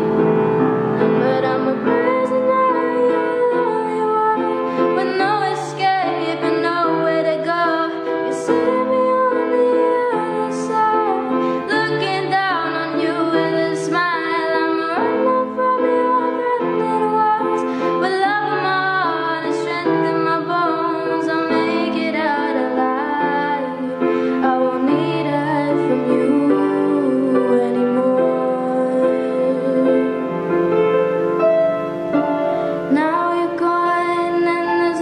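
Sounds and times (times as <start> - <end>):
piano chords: 0.0 - 35.0
girl singing: 0.9 - 30.3, 32.8 - 35.0.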